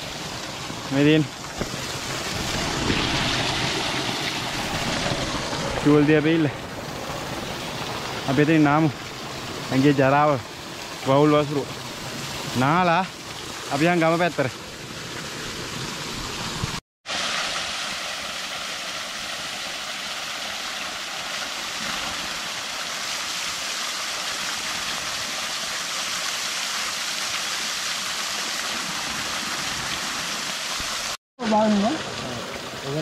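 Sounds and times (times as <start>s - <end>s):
waterfall splashing: 0.0s - 33.0s.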